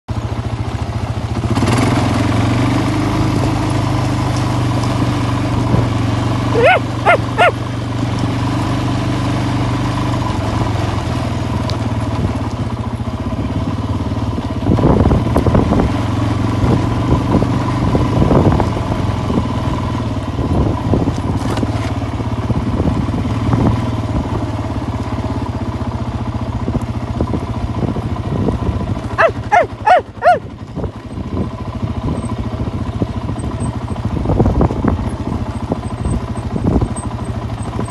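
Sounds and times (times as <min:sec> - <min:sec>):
vehicle engine running: 0:00.1 - 0:37.9.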